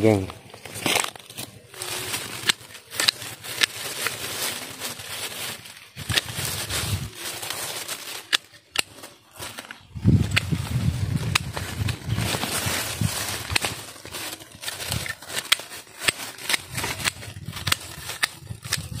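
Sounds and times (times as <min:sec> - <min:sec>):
footsteps through dry leaves: 0:00.0 - 0:19.0
twigs crackling and snapping: 0:00.0 - 0:19.0.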